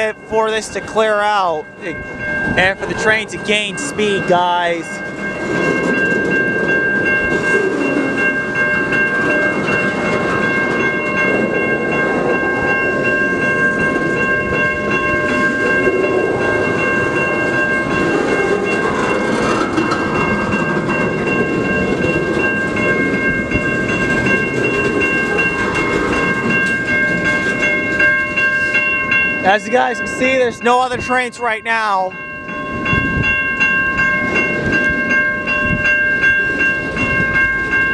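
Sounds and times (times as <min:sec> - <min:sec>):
steady high-pitched ringing: 0:00.0 - 0:37.9
train wheels rumbling on rails: 0:00.0 - 0:37.9.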